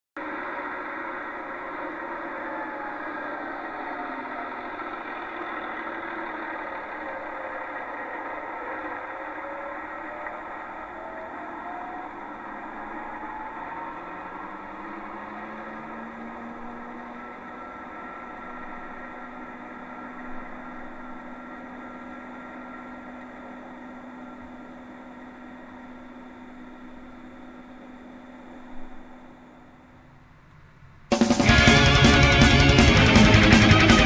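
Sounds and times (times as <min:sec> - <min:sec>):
engine drone: 0:00.2 - 0:34.0.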